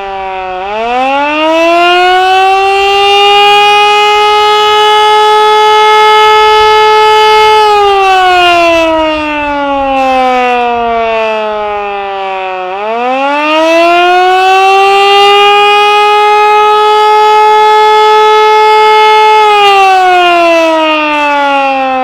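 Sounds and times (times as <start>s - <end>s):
outdoor warning siren: 0.0s - 22.0s.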